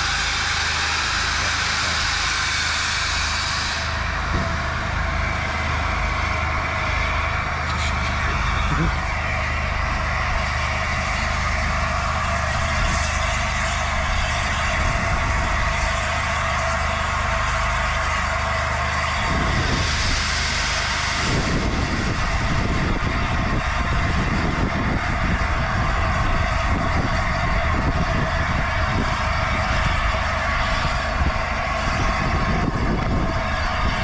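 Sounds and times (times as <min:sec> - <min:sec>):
steam hissing: 0:00.0 - 0:34.0.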